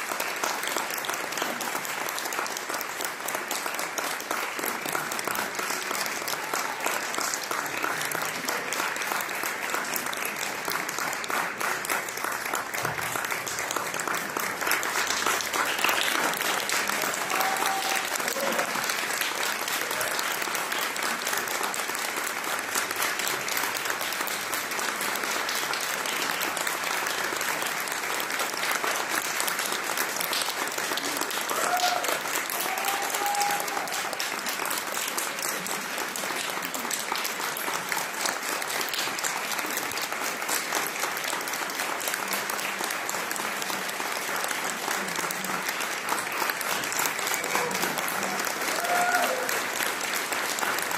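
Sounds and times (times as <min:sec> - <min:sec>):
audience applauding: 0:00.0 - 0:50.9.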